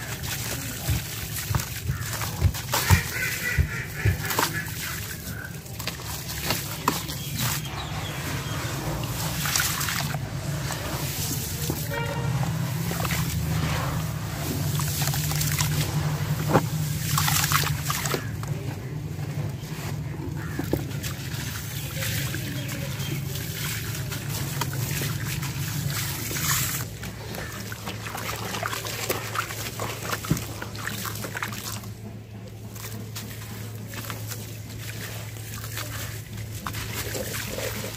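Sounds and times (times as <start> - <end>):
sharp splashes: 0.0 - 18.8, 19.6 - 37.9
grit crackling and trickling: 0.0 - 37.9
hands sloshing muddy water: 0.0 - 37.9.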